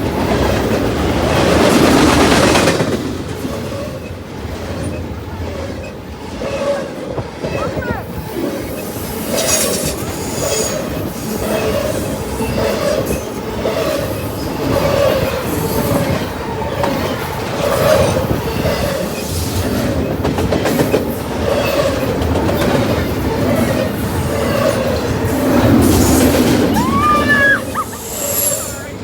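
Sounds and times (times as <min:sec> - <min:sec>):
freight train cars rumbling: 0:00.0 - 0:29.0
wheels clacking over rails: 0:00.0 - 0:29.0.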